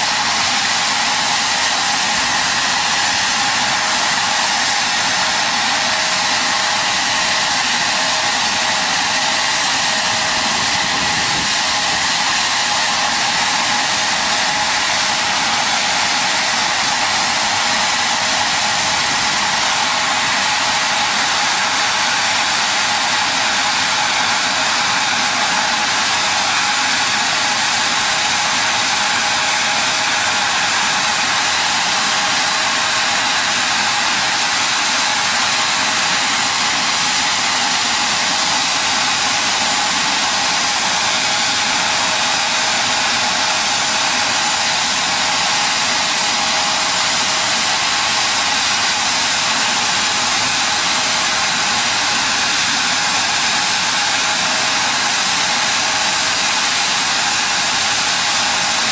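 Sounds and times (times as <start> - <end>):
mechanical rushing hiss: 0.0 - 22.3, 26.0 - 58.3
constant whine: 0.0 - 58.8.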